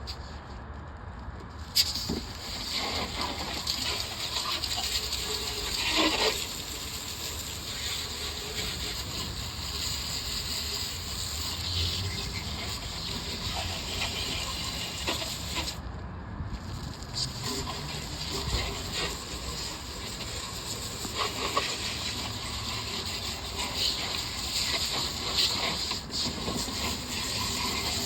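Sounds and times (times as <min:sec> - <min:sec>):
water jet spraying: 0:01.8 - 0:15.8, 0:16.6 - 0:28.0.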